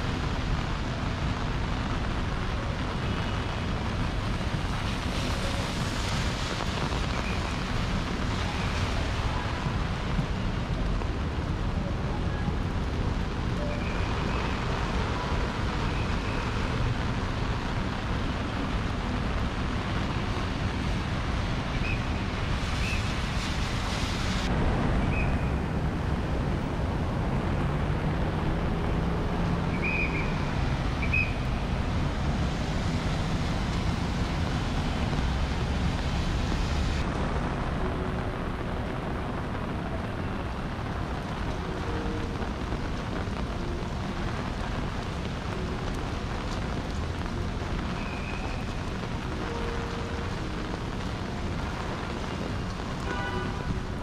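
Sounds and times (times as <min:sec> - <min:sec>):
rain hissing: 0:00.0 - 0:54.0.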